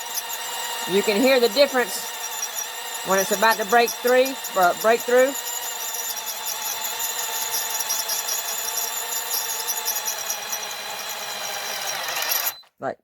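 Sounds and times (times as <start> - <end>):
power drill boring: 0.0 - 12.8.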